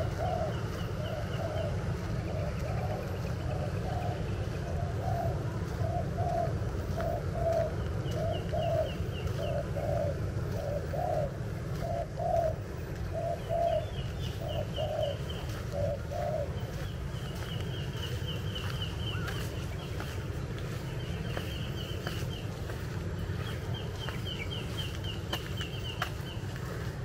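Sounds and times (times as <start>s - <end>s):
dove cooing: 0.0s - 27.0s
steady low rumble: 0.0s - 27.0s.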